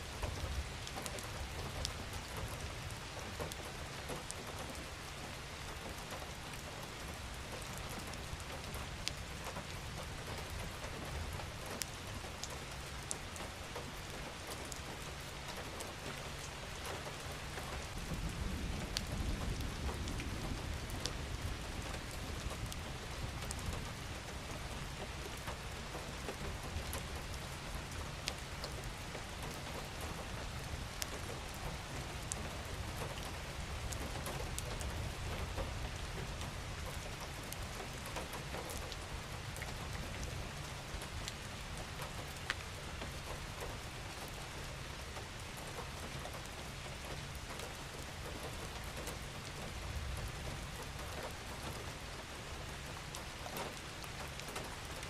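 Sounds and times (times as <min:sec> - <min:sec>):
gentle rain hiss: 0:00.0 - 0:55.0
raindrops ticking: 0:00.1 - 0:55.0.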